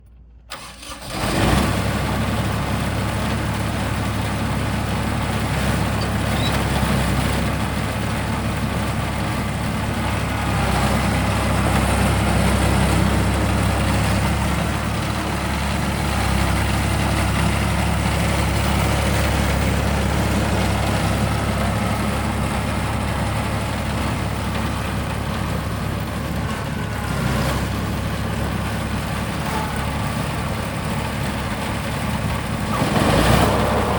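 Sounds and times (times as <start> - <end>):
diesel mower engine idling: 0.4 - 33.9.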